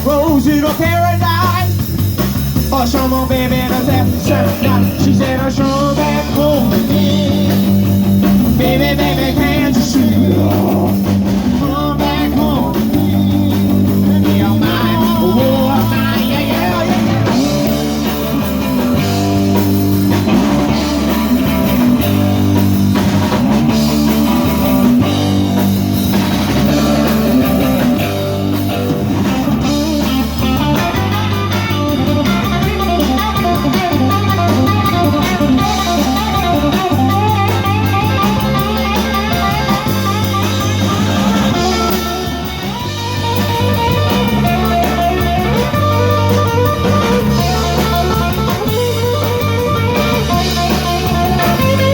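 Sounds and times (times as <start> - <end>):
bass line: 0.0 - 51.9
drum kit: 0.0 - 51.9
electric guitar lead lines: 0.0 - 51.9.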